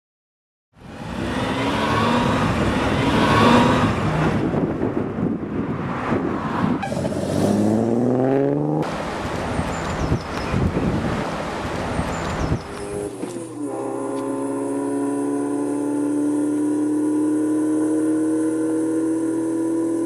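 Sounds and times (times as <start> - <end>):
car engines accelerating: 0.8 - 20.0.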